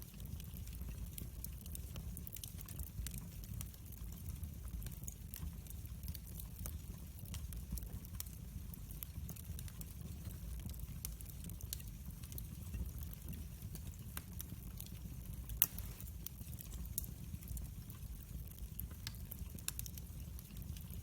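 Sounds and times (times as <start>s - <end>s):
fire crackles and snaps: 0.0s - 21.0s
fire rumbling in fireplace: 0.0s - 21.0s.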